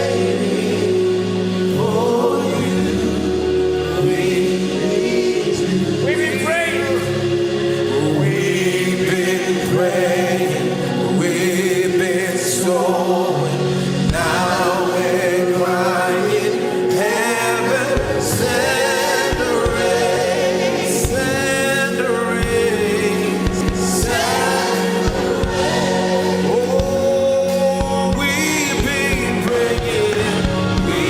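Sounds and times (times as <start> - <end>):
band accompaniment: 0.0 - 31.0
choir singing: 0.0 - 31.0.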